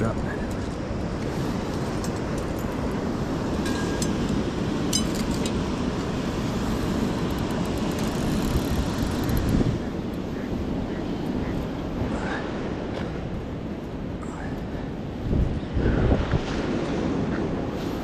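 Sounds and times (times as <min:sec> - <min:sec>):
churning river water: 0:00.0 - 0:18.0.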